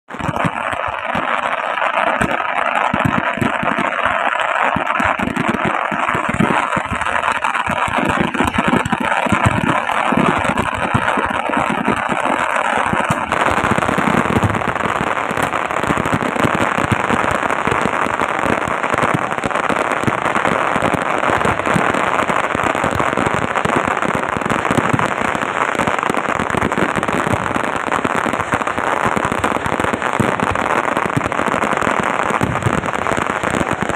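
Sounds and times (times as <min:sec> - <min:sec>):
fireworks fizzing and crackling: 0:00.0 - 0:33.9.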